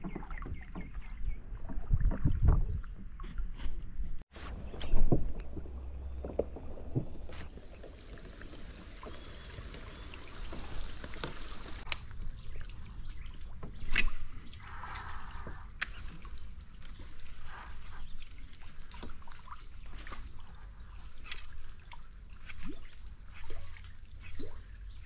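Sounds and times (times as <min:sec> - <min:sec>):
water lapping against kayak hull: 0:00.0 - 0:03.7, 0:05.1 - 0:25.0
knocks and splashes: 0:00.0 - 0:03.8, 0:04.7 - 0:25.0.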